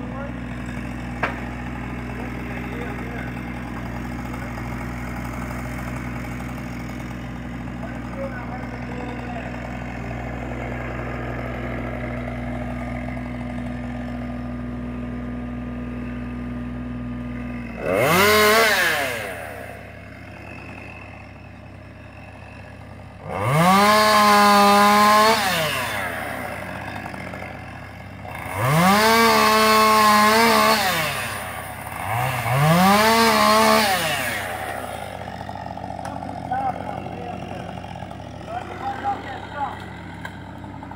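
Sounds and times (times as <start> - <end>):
chainsaw engine idling: 0.0 - 40.9
chainsaw revving: 0.0 - 40.9.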